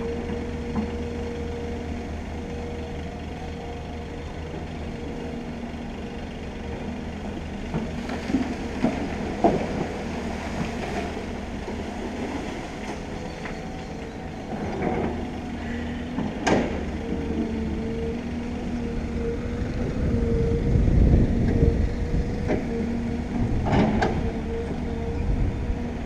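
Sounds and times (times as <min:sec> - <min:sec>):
excavator diesel engine drone: 0:00.0 - 0:26.0.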